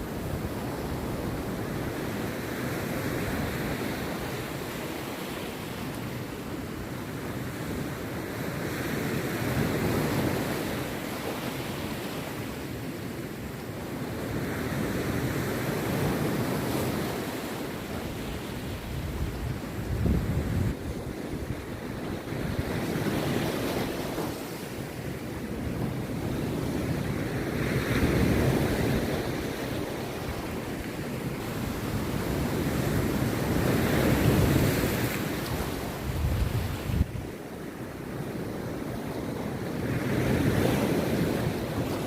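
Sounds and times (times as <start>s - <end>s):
sea surf breaking on beach: 0.0s - 42.0s.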